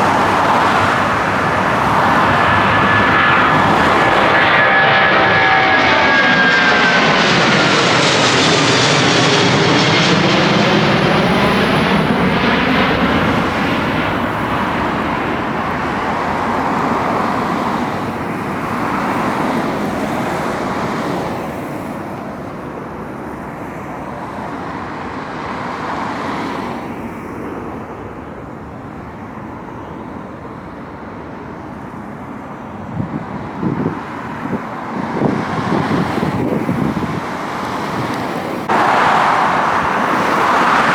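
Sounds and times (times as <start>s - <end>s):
jet airliner passing overhead: 0.0s - 40.9s.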